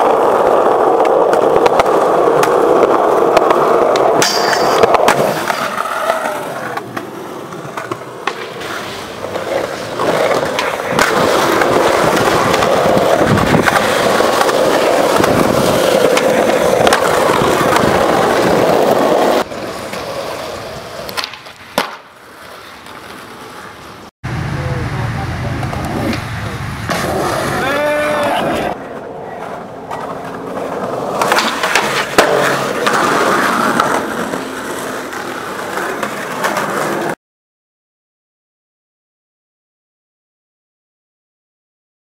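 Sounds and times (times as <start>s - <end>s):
skateboard clacking on ground: 0.0s - 24.0s, 26.9s - 37.2s
skateboard wheels rolling on pavement: 0.0s - 37.2s.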